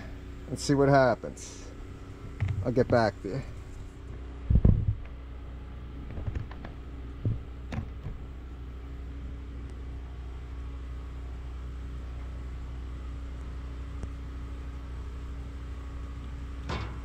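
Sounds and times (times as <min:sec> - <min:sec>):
low machine-like hum: 0:00.0 - 0:17.0.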